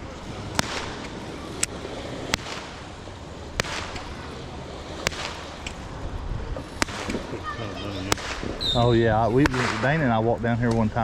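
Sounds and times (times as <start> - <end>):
fireworks bangs: 0.0 - 10.8
steady background hiss: 0.0 - 11.0.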